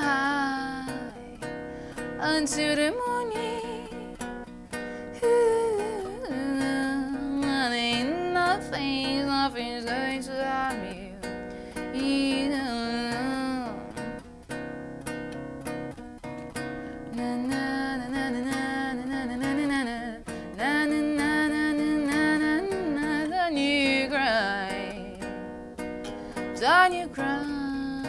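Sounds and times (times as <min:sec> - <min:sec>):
woman singing vibrato notes: 0:00.0 - 0:01.5, 0:02.2 - 0:04.3, 0:05.1 - 0:14.2, 0:17.0 - 0:25.3, 0:26.4 - 0:28.0
acoustic guitar: 0:00.0 - 0:28.0.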